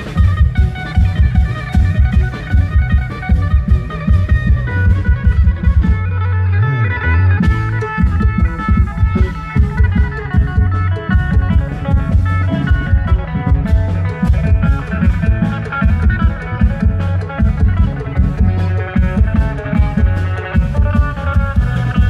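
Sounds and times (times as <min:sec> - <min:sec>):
fast drum beat: 0:00.0 - 0:06.1, 0:07.4 - 0:22.0
plucked string melody: 0:00.0 - 0:22.0.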